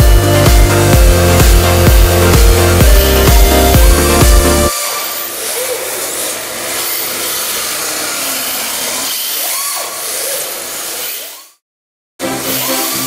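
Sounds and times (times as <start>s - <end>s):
electric motor whines: 0.0s - 11.6s.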